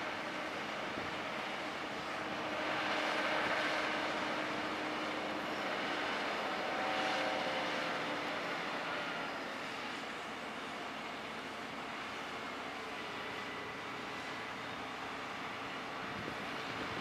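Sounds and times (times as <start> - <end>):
faint whining tones: 0.0 - 17.0.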